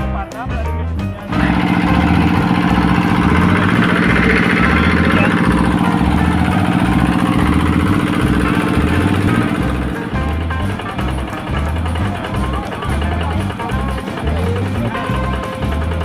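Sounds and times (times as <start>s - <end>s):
water pump engine humming: 1.3s - 16.0s.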